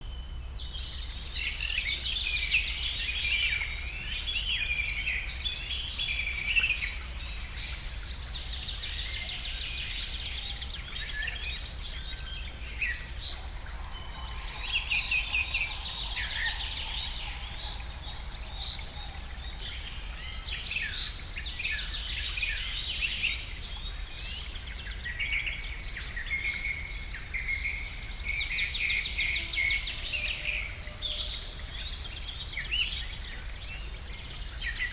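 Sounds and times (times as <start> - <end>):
small birds singing and chirping: 0.0 - 34.9.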